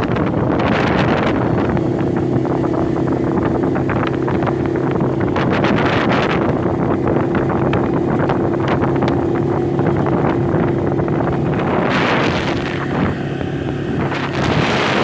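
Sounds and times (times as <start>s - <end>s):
quad bike engine running: 0.0s - 15.0s
wind buffeting microphone: 0.0s - 15.0s.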